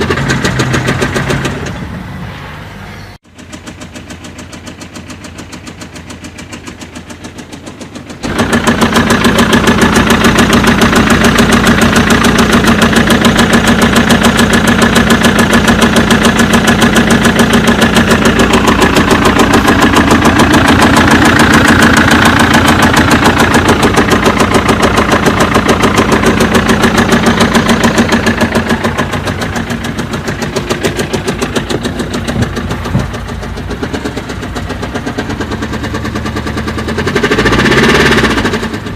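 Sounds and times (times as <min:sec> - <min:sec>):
engine knocking clatter: 0:00.0 - 0:01.8, 0:03.3 - 0:38.9.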